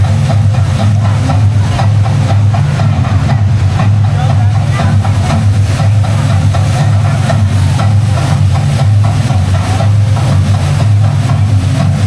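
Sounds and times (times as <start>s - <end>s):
churning water rushing: 0.0s - 12.0s.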